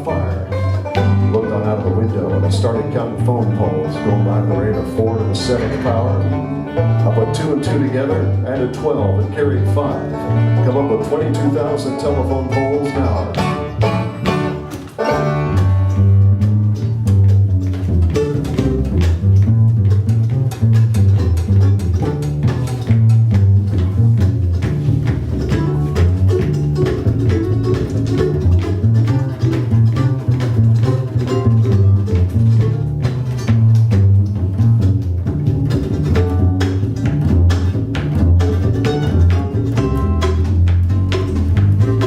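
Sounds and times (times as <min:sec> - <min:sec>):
acoustic bluegrass band: 0:00.0 - 0:42.0
upright bass: 0:00.0 - 0:42.0.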